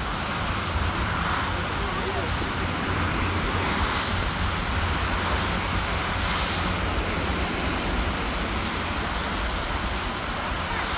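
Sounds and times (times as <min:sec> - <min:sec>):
distant jet engines rushing: 0:00.0 - 0:10.9
wind rumble on microphone: 0:00.0 - 0:10.9.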